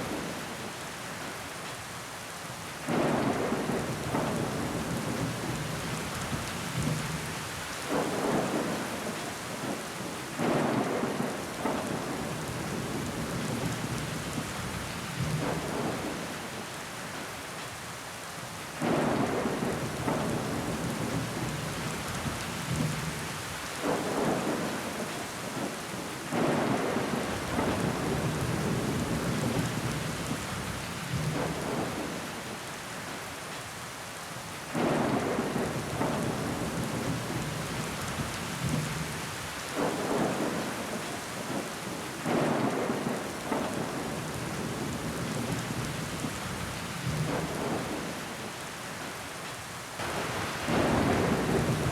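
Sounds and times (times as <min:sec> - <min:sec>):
rain on window glass: 0:00.0 - 0:51.9.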